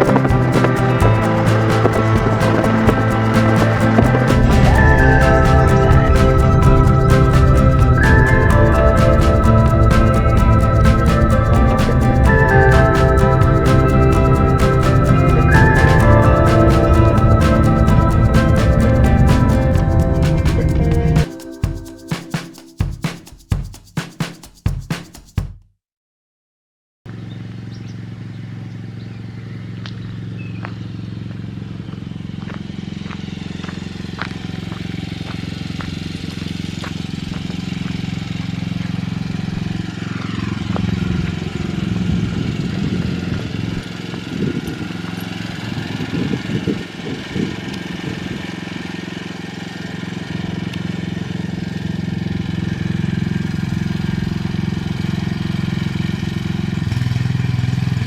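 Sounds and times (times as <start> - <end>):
vehicle engine humming: 0.0 - 22.8, 27.1 - 58.0.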